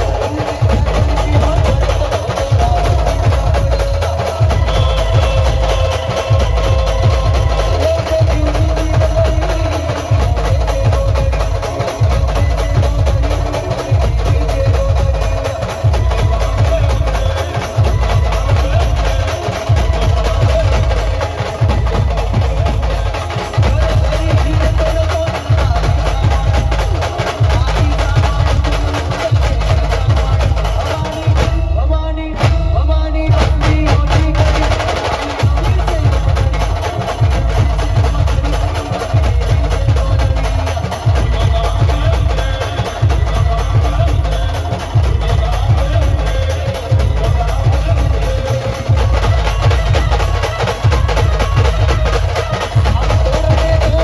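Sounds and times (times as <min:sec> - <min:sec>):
heavy drum beats: 0:00.0 - 0:54.0.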